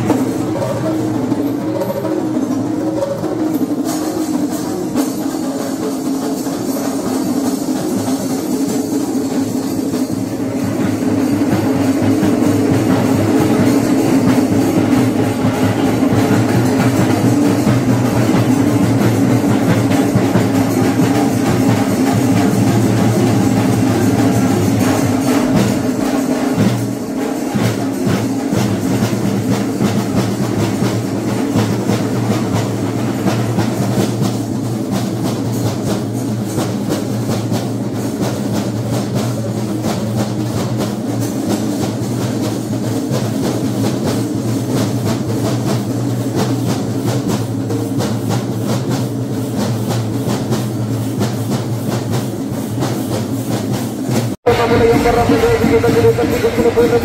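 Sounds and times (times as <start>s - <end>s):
drum ensemble playing rapidly: 0.0s - 57.0s.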